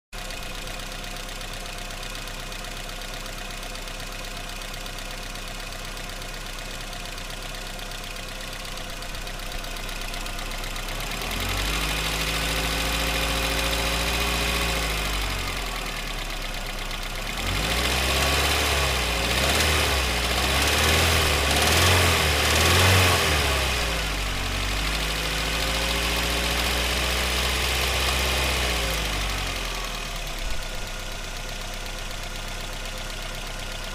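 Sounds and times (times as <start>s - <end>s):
car engine idling and revving: 0.2s - 33.9s.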